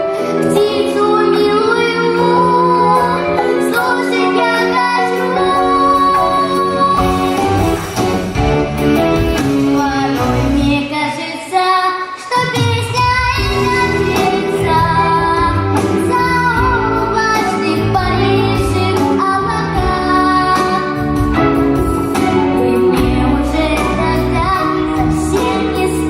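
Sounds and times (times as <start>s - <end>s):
girl singing: 0.0s - 7.7s, 9.6s - 26.0s
instrumental backing track: 0.0s - 26.0s.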